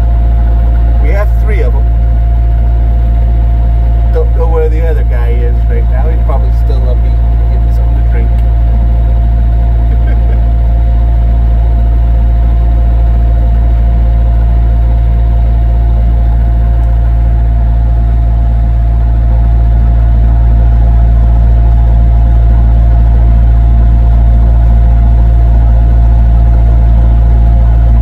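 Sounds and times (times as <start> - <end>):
loader engine idling: 0.0 - 28.0.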